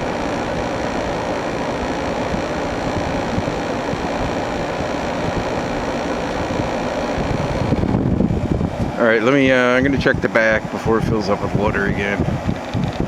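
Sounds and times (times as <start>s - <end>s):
air conditioner fan and compressor: 0.0s - 13.0s.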